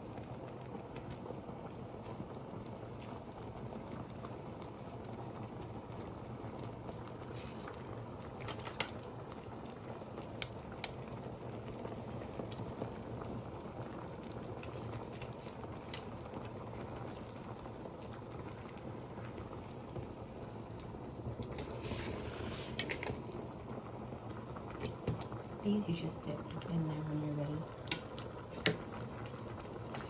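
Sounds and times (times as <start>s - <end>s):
broth bubbling in a pot: 0.0s - 30.0s.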